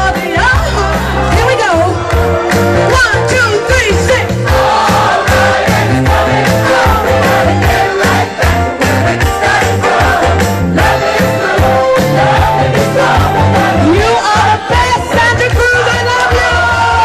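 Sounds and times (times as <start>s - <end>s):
live band playing soul-pop: 0.0s - 16.9s.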